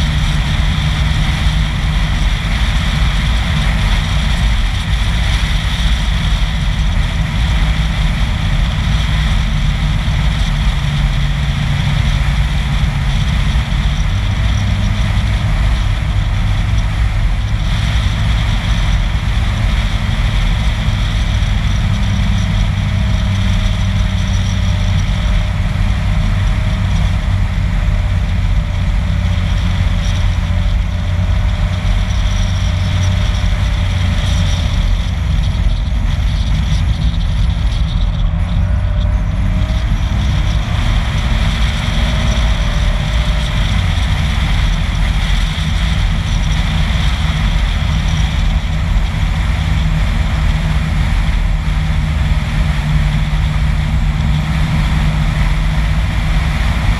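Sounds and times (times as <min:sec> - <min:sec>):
engine drone: 0:00.0 - 0:56.9
wind noise: 0:00.0 - 0:56.9.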